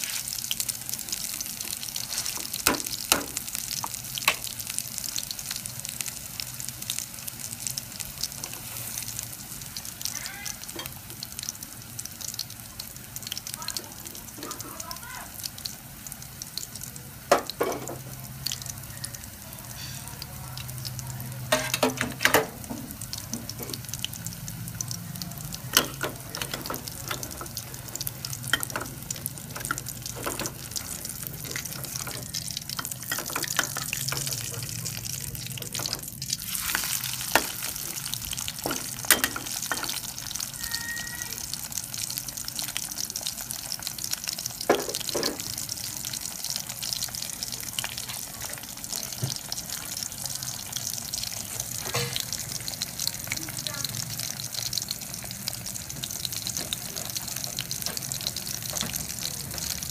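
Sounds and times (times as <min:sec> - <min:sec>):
patty sizzling in hot oil: 0:00.0 - 0:59.9.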